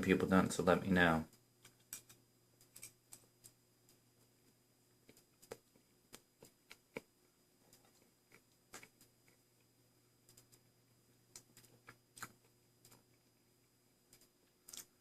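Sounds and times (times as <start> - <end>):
faint eating clicks and taps: 1.3 - 15.0.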